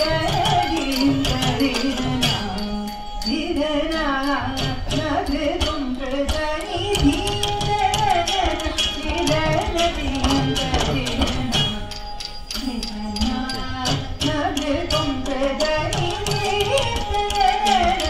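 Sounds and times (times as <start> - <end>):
sharp percussion strokes: 0.0 - 18.0.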